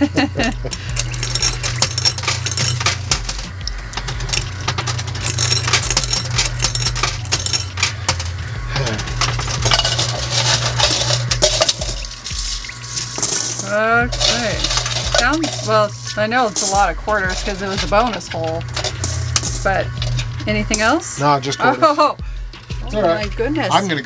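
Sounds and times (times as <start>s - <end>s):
steady low hum: 0.0s - 24.0s
coins clattering and clinking: 0.1s - 21.0s.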